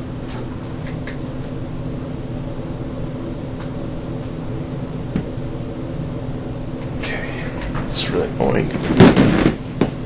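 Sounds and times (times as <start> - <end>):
low droning hum: 0.0 - 10.0.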